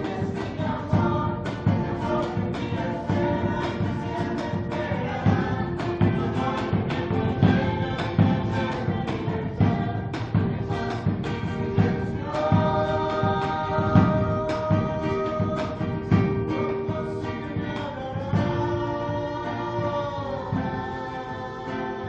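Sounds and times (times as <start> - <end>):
choir-like voices over a beat: 0.0 - 22.0.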